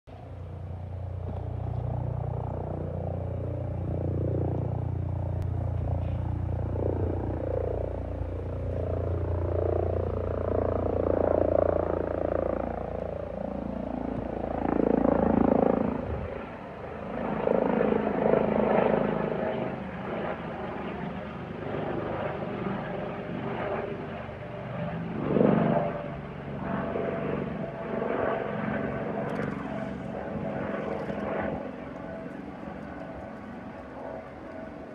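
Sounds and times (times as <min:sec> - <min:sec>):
helicopter flying over: 0:00.1 - 0:34.9.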